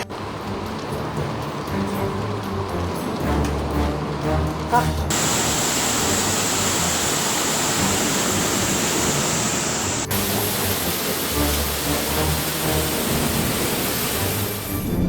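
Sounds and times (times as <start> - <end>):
floodwater rushing: 0.0 - 14.9.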